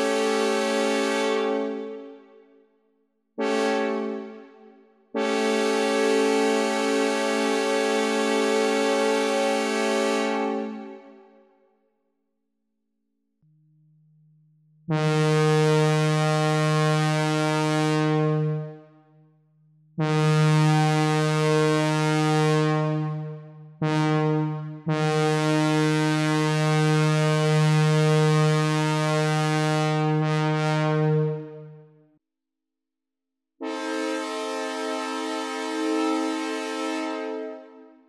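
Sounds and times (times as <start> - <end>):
synthesized train horn blasts: 0.0 - 2.4, 3.4 - 11.3, 14.8 - 18.9, 20.0 - 31.9, 33.6 - 38.0.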